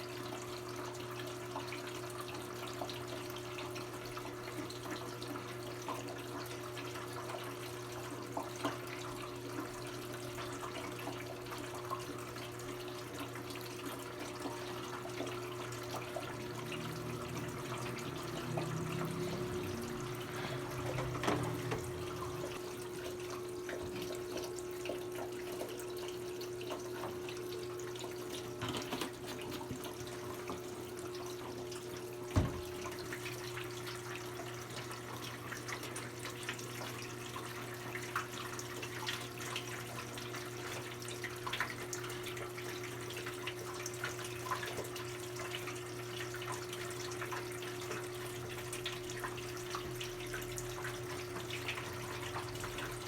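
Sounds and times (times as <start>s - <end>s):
washing machine hum: 0.0s - 53.0s
water pouring into washing machine: 0.0s - 53.0s.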